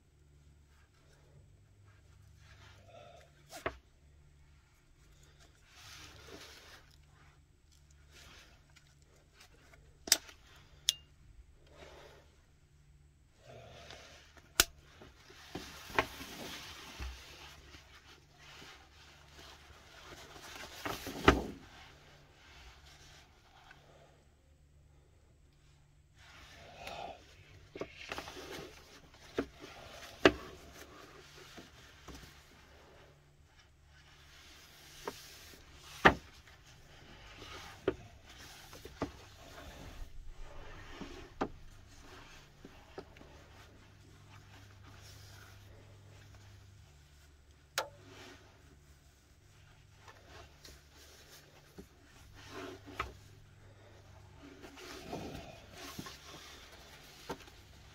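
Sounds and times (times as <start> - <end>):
mesh fabric and straps rustling: 0.1 - 10.8, 11.4 - 24.2, 25.6 - 57.9.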